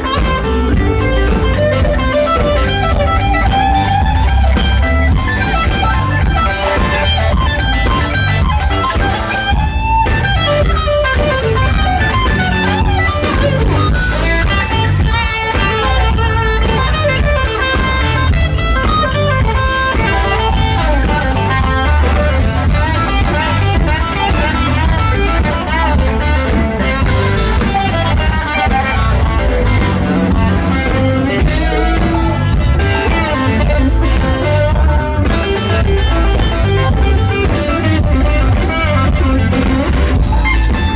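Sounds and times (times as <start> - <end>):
electric guitar lead: 0.0 - 40.9
live blues-rock band: 0.0 - 40.9.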